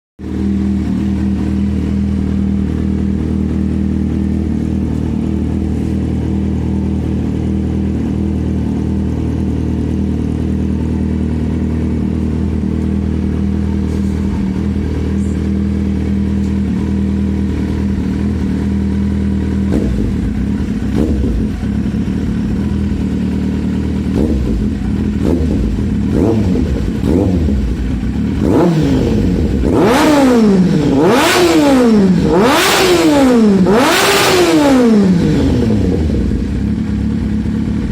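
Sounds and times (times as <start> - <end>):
motorcycle engine idling and revving: 0.2 - 37.9.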